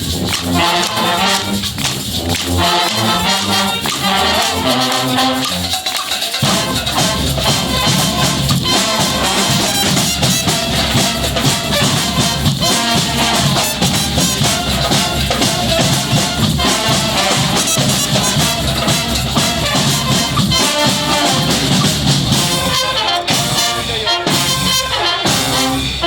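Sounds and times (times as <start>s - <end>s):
brass band playing: 0.0s - 26.0s.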